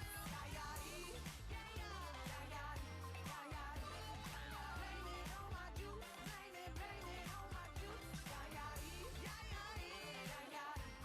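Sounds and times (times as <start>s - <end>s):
music with vocals: 0.0s - 11.0s.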